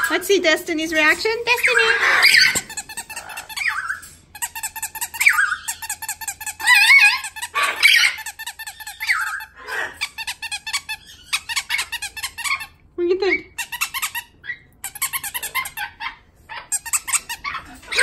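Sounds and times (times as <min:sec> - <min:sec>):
rubber squeaky toy squeaking: 0:01.7 - 0:12.8, 0:13.6 - 0:18.0.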